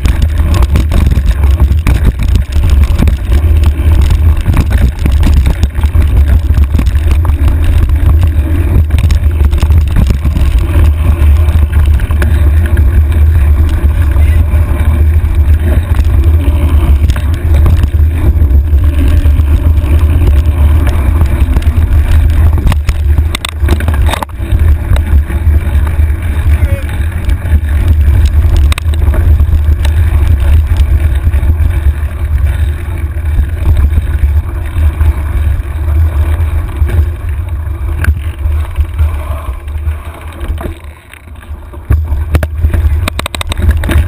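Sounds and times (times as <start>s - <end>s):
bike knocks and rattles: 0.0s - 44.0s
wind buffeting microphone: 0.0s - 44.0s.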